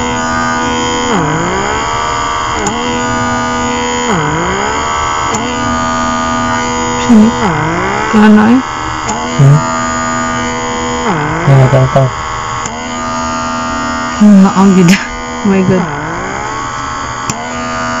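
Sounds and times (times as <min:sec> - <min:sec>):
small electric pump motor humming: 0:00.0 - 0:18.0.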